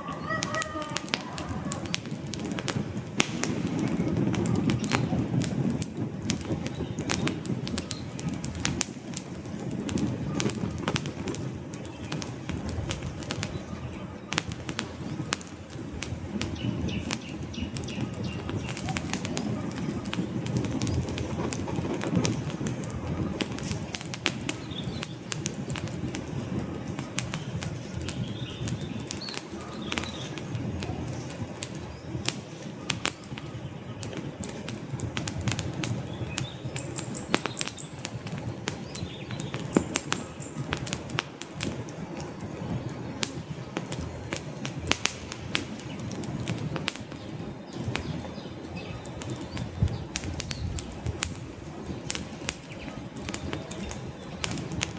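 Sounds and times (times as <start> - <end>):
logs crackling and popping: 0.0 - 54.9
low rush of flames: 0.0 - 54.9.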